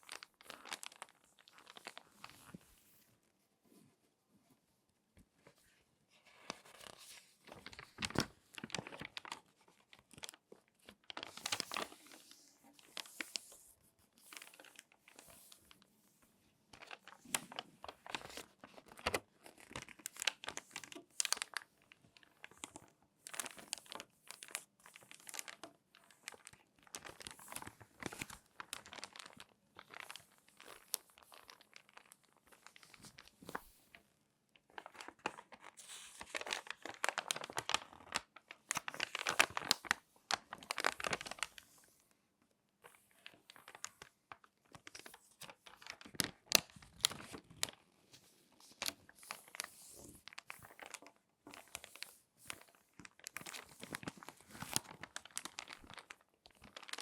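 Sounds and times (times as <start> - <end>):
magazine pages crinkling: 0.0 - 2.8, 6.2 - 15.8, 16.7 - 34.0, 34.6 - 42.0, 42.9 - 57.0.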